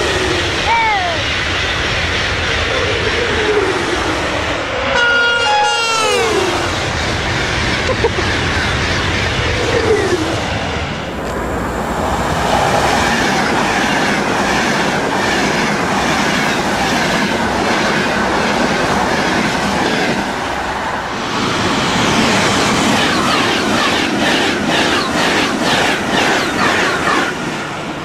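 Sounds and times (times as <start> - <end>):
trains rushing past: 0.0 - 28.0.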